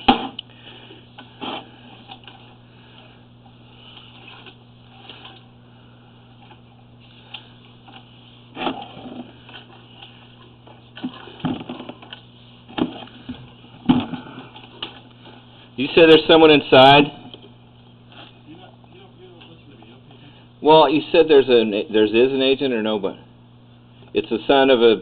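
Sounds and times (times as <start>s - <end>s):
equipment low hum: 0.0s - 25.0s.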